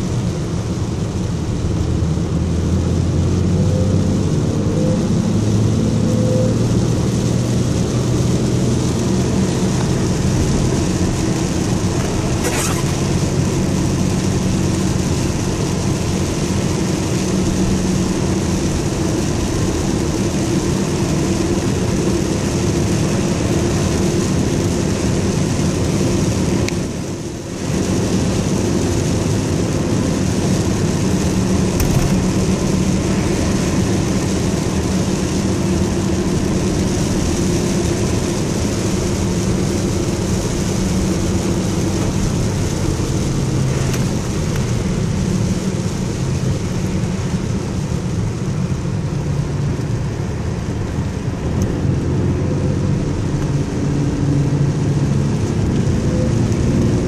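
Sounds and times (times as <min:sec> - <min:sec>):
vehicle engine and road noise: 0:00.0 - 0:57.0
tyres hissing on wet pavement: 0:06.6 - 0:57.0.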